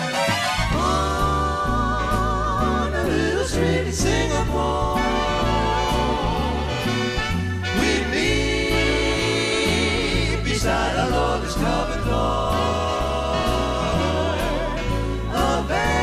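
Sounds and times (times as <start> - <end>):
big band music: 0.0 - 16.0
bass line: 0.1 - 16.0
vocal group singing in harmony: 0.4 - 16.0.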